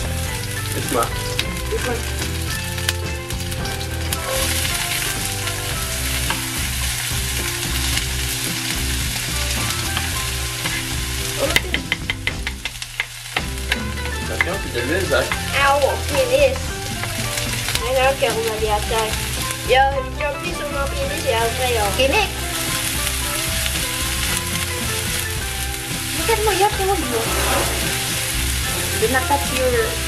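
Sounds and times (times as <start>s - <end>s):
onion and garlic sizzling: 0.0s - 30.0s.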